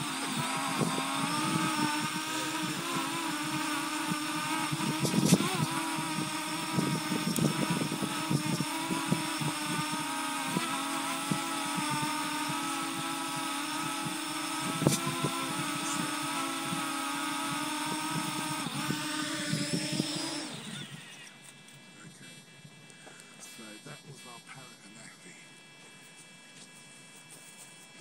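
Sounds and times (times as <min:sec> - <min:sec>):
quadcopter propellers buzzing: 0:00.0 - 0:25.4.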